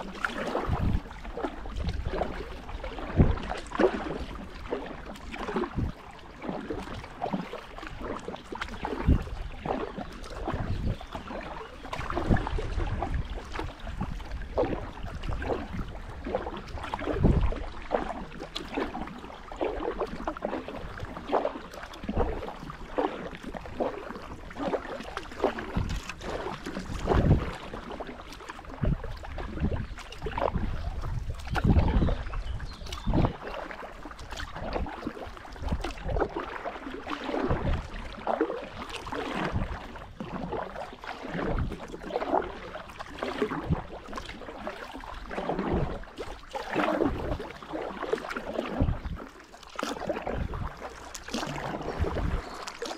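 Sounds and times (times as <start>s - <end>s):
paddle splashing through water: 0.0s - 52.9s.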